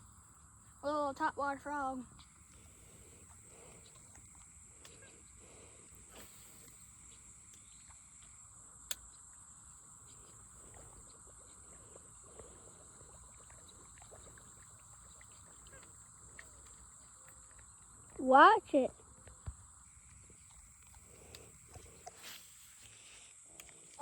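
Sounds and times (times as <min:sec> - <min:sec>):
faint high-pitched hum: 0:00.0 - 0:24.0.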